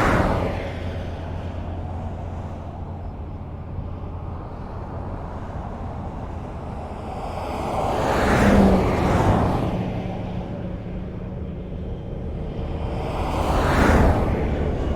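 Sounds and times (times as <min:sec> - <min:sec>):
highway traffic rumble: 0:00.0 - 0:14.9.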